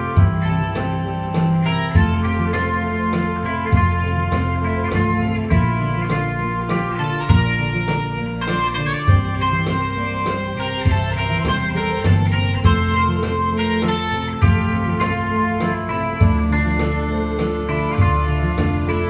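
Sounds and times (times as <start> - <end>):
low bass notes: 0.0 - 19.0
plucked guitar: 0.0 - 19.0.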